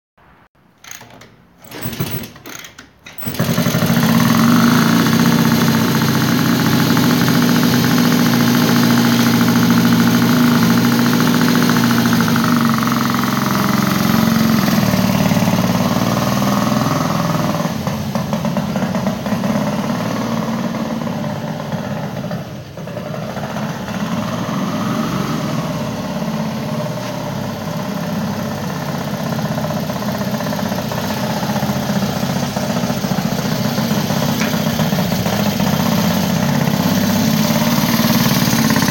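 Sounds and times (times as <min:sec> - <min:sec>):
motorcycle engine running: 0:03.2 - 0:38.9.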